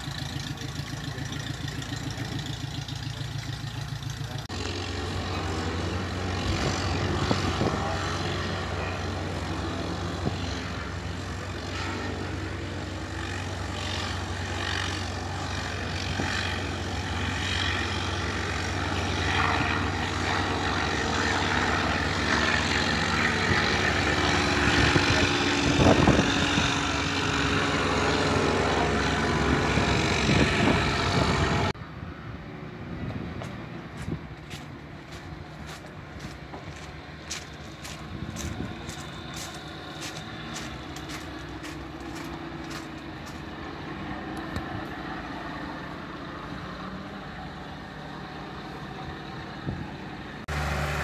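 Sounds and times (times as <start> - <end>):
propeller aircraft flying past: 0.0 - 51.0.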